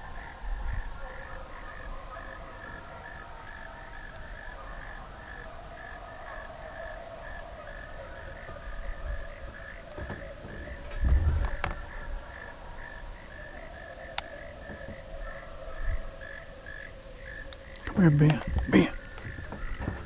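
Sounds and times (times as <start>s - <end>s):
frogs chirping: 0.0s - 20.0s.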